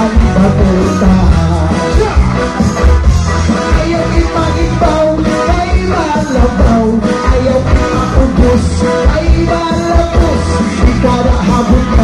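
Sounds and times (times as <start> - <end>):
band playing cha-cha-cha: 0.0 - 12.0
person singing: 0.0 - 12.0.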